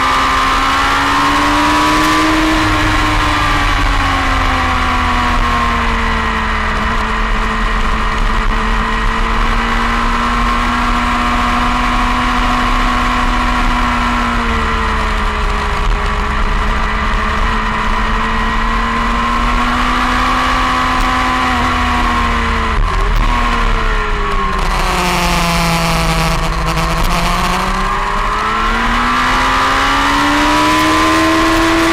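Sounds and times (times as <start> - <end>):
motorcycle engine at speed: 0.0 - 31.9
wind rumble on microphone: 0.9 - 31.9.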